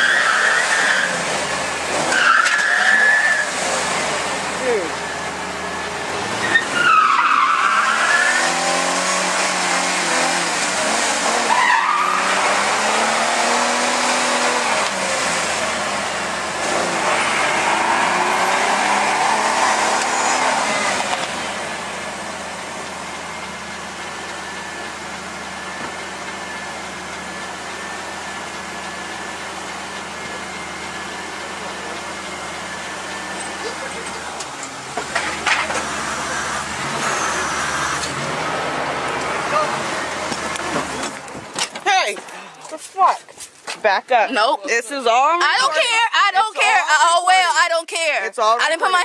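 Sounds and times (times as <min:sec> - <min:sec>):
vehicle engine revving: 0:00.0 - 0:41.4
tires squealing: 0:00.0 - 0:42.0.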